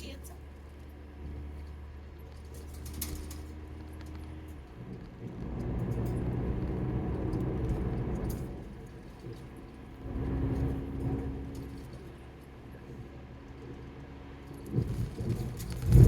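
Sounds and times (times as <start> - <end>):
car engine and road noise: 0.0 - 16.0
light rattles: 0.0 - 16.0.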